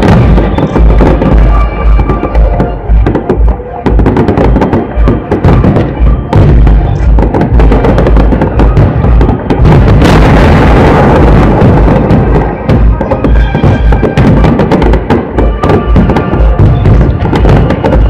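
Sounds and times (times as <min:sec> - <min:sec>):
fireworks booming and crackling: 0:00.0 - 0:18.0
music playing: 0:00.0 - 0:18.0.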